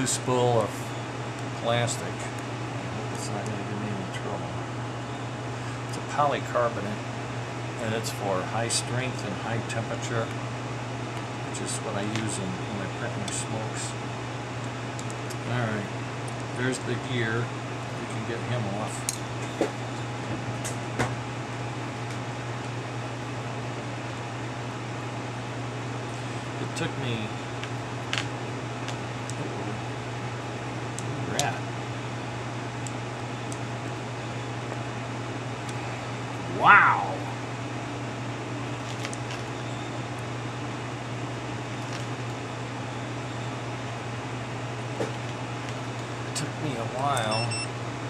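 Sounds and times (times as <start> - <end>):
fan humming: 0.0 - 48.0.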